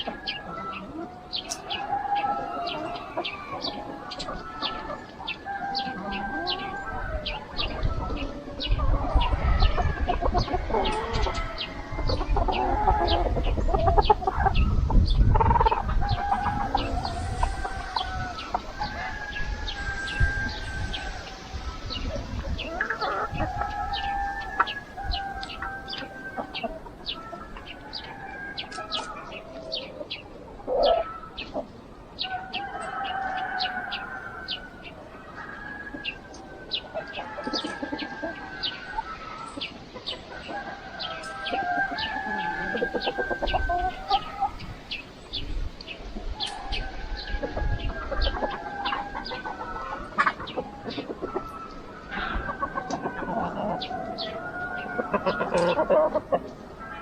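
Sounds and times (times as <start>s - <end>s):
chickens clucking: 0.0s - 57.0s
roosters crowing: 0.0s - 57.0s.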